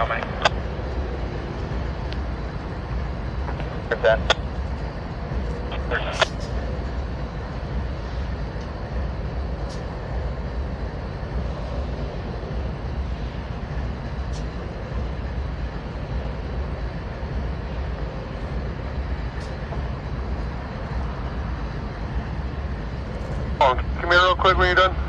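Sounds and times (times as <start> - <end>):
distant locomotives rumbling: 0.0 - 25.0.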